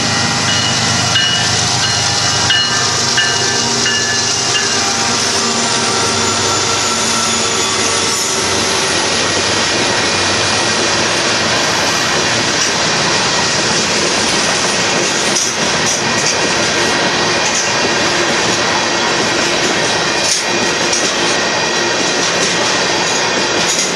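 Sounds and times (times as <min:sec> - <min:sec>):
diesel locomotive engine: 0:00.0 - 0:23.9
train wheels running on rails: 0:00.0 - 0:23.9.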